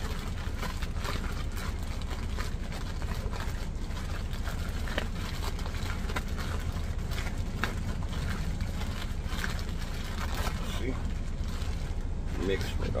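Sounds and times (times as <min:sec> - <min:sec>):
plastic bag crinkling and squishing: 0:00.0 - 0:13.0
steady low hum: 0:00.0 - 0:13.0.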